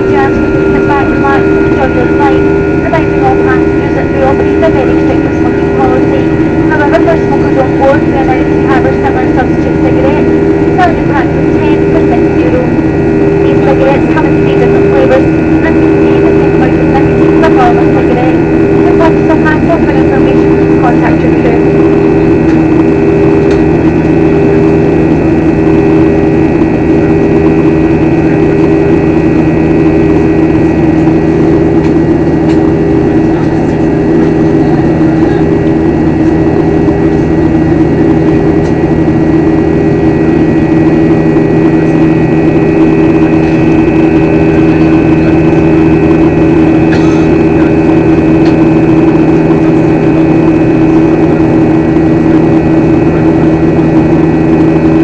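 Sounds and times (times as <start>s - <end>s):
airliner cabin engine drone: 0.0s - 55.0s.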